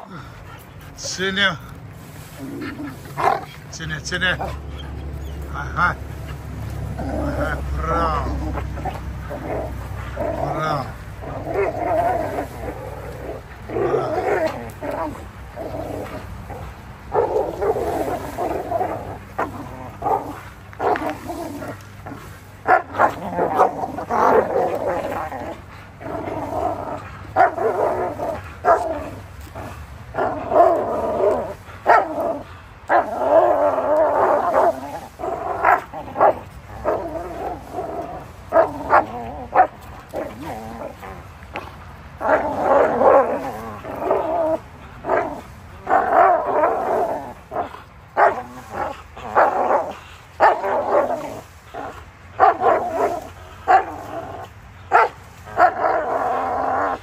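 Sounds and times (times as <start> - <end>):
dogs growling and barking: 0.0 - 57.0
dogs yipping: 2.3 - 41.3, 42.2 - 57.0.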